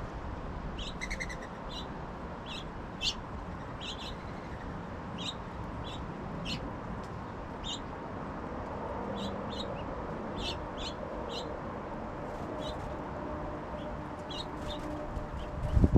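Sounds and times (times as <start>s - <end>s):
songbirds chirping: 0.6s - 15.8s.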